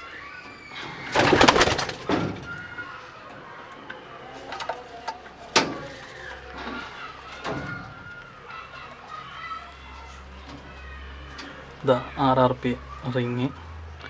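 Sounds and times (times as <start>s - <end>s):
pigeons cooing: 0.0s - 11.9s
loud rustling: 0.2s - 11.8s.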